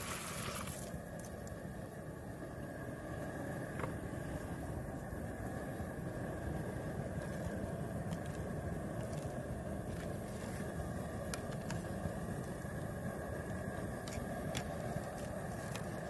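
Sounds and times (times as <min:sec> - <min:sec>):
propane burner rushing: 0:00.0 - 0:16.0.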